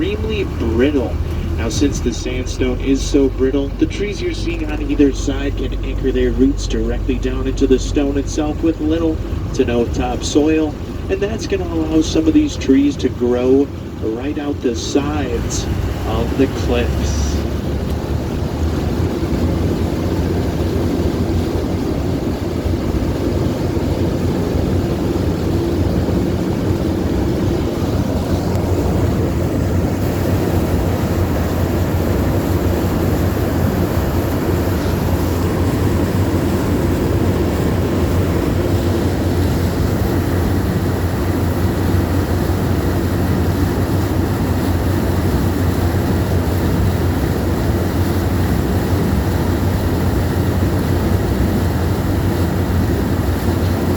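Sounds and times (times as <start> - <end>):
boat engine droning: 0.0 - 53.9
rushing water haze: 0.0 - 53.9.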